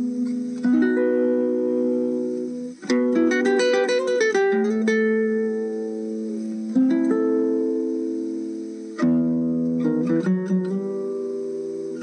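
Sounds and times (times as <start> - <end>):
slow plucked guitar: 0.0 - 12.0.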